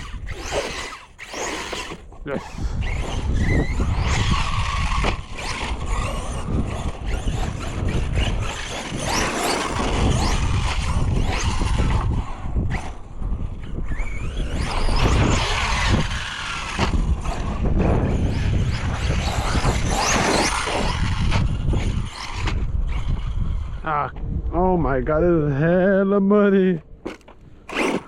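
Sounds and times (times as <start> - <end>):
rc car electric motor whining: 0.0 - 23.9, 27.0 - 28.0.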